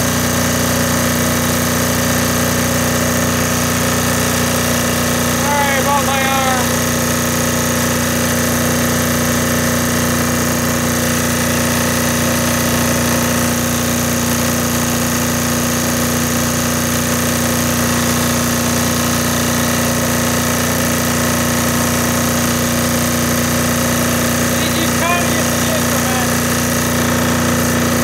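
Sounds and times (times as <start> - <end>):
diesel generator engine running: 0.0 - 28.0.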